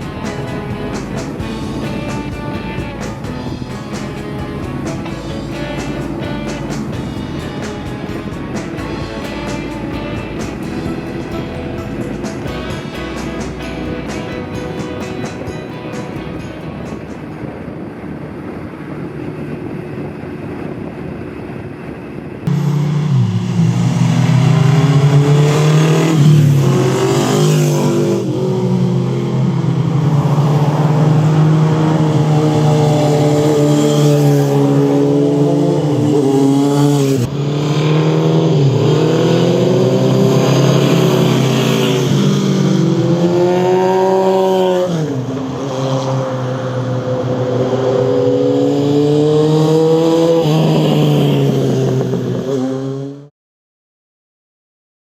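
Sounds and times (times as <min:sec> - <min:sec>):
motorcycle engine accelerating: 0:00.0 - 0:20.8, 0:22.5 - 0:53.3.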